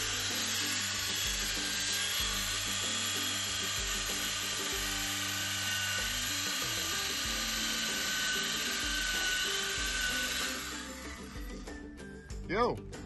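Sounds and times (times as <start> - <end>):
electric chainsaw cutting wood: 0.0 - 11.9
background music: 0.0 - 13.0.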